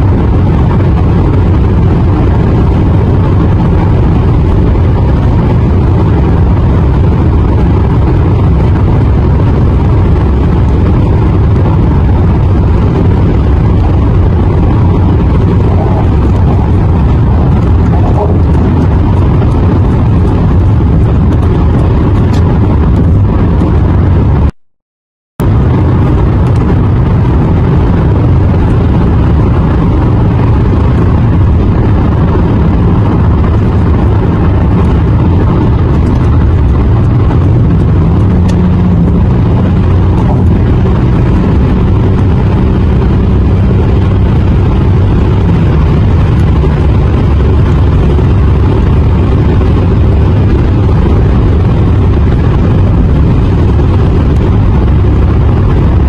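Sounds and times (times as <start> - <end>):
car road and engine rumble: 0.0 - 24.6, 25.4 - 56.0.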